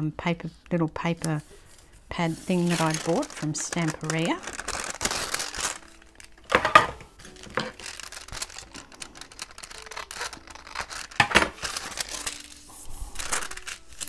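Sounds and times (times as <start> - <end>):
paper rustling: 1.3 - 14.0.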